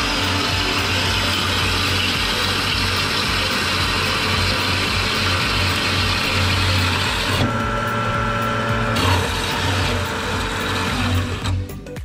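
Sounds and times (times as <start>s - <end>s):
bandsaw cutting steel: 0.0s - 11.8s.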